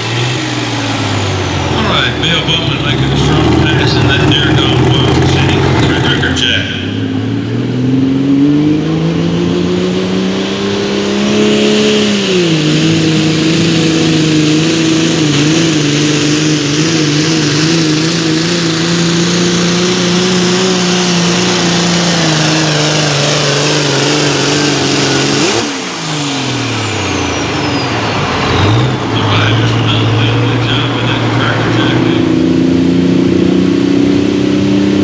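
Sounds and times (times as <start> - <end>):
engine running under load: 0.0 - 35.0.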